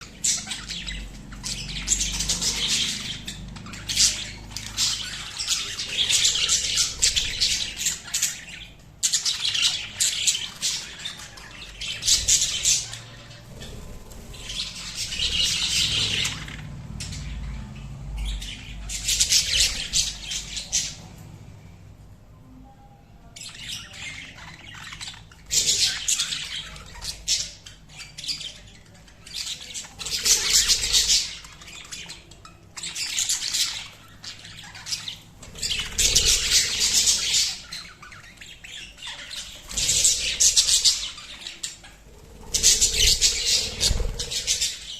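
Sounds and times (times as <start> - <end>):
budgerigars chattering: 0.0 - 21.2, 23.4 - 44.9.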